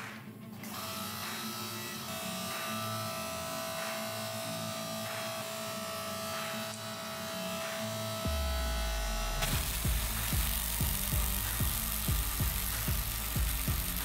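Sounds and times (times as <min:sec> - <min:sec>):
background music with steady beat: 0:00.0 - 0:14.0
electric pump motor humming: 0:00.6 - 0:14.0.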